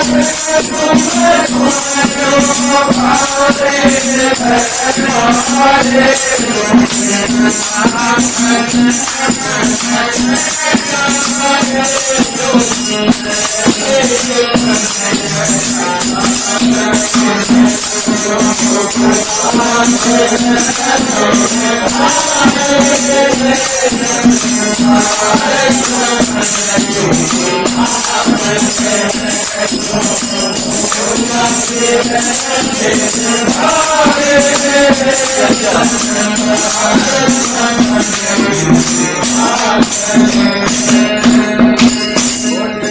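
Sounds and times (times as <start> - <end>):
jingling hand percussion: 0.0 - 42.9
person singing: 0.0 - 42.9.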